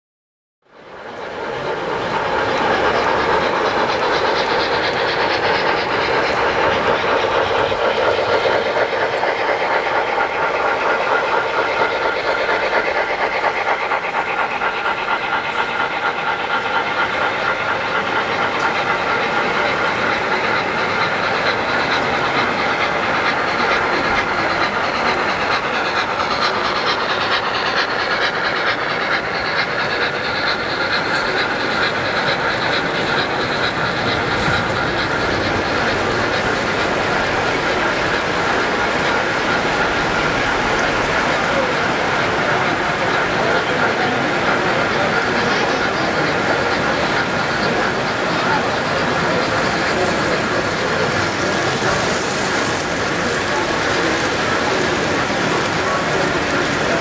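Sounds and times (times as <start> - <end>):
model train wheels clattering on rails: 0.8 - 57.0.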